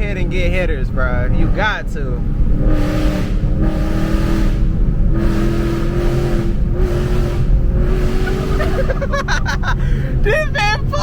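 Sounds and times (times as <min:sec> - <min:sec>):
loud car engine: 0:00.0 - 0:11.0.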